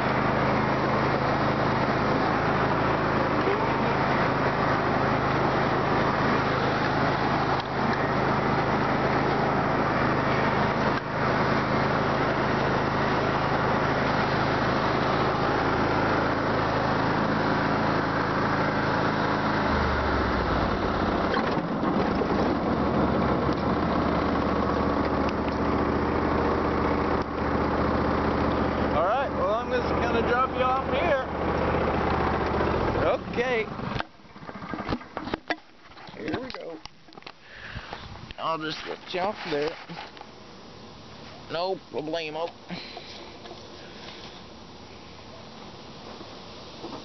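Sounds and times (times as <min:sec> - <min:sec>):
engine running with low hum: 0:00.0 - 0:47.0.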